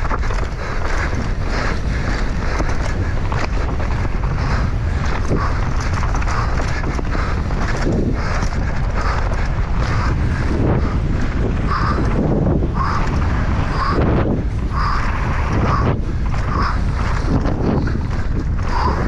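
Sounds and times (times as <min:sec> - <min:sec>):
bike clattering on rough trail: 0:00.0 - 0:19.0
wind rushing over microphone: 0:00.0 - 0:19.0.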